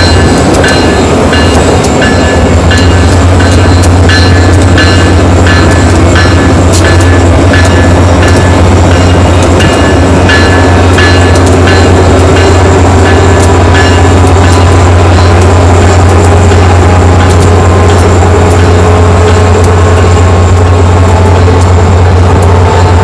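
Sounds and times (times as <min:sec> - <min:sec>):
diesel locomotive engines humming: 0:00.0 - 0:23.0.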